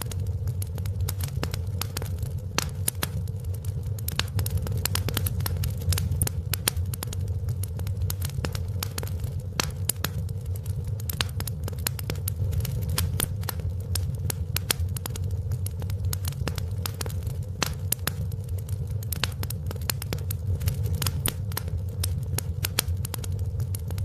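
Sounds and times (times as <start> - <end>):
low rumble of burning fire: 0.0 - 24.0
wood fire crackling and popping: 0.0 - 24.0.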